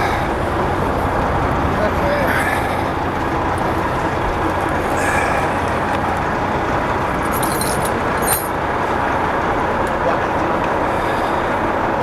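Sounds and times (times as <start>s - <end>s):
vehicle running: 0.0s - 12.0s.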